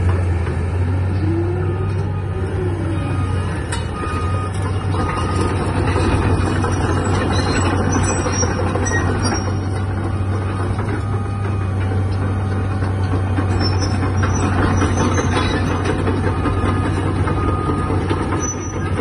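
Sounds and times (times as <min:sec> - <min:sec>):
excavator diesel engine running: 0:00.0 - 0:19.0
metal tracks clanking: 0:03.5 - 0:19.0.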